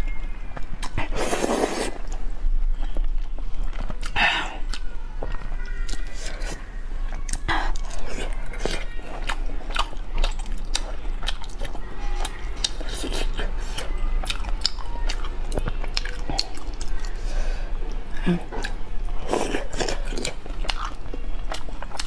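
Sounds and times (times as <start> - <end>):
wet chewing and mouth smacks: 0.6 - 17.3, 17.9 - 22.0.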